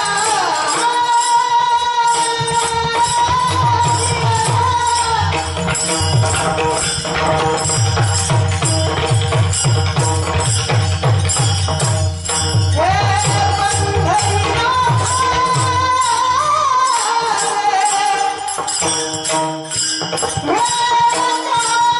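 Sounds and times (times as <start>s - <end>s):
jingling cymbals: 0.0s - 21.9s.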